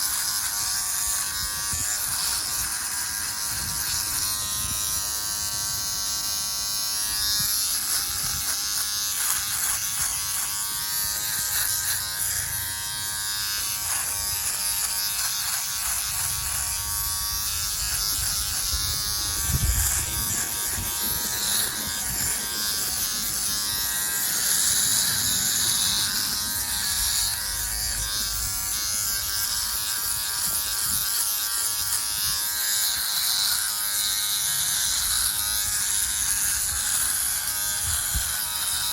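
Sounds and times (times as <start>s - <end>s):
blade cutting hair hiss: 0.0s - 38.9s
electric trimmer motor buzzing: 0.0s - 38.9s.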